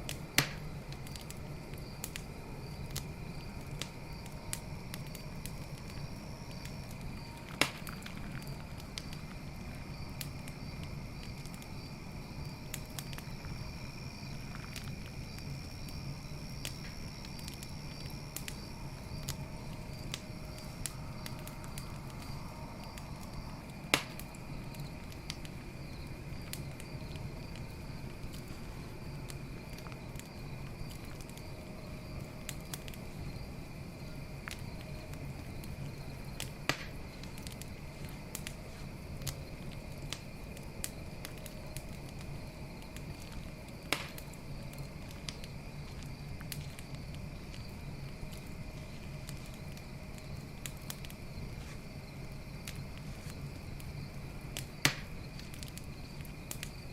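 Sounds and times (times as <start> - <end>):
campfire wood crackling: 0.0 - 56.9
insects chirping: 0.0 - 56.9
fire pops: 0.1 - 33.4, 34.0 - 56.9.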